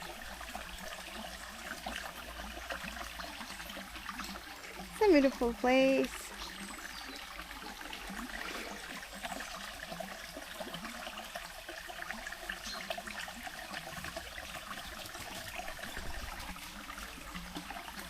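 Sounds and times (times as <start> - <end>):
stream trickling and burbling: 0.0 - 18.0.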